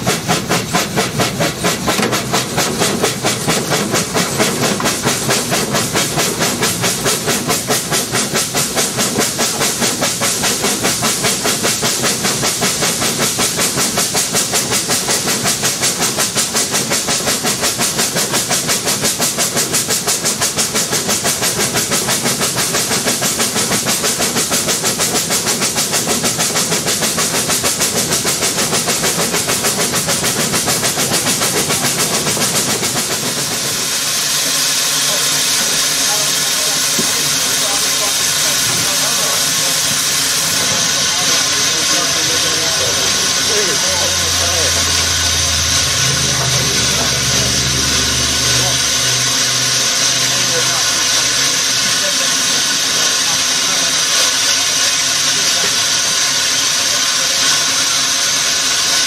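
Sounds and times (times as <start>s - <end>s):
steam hissing: 0.0s - 59.0s
steam locomotive exhaust beats: 0.0s - 59.0s
train rail noise: 0.0s - 59.0s.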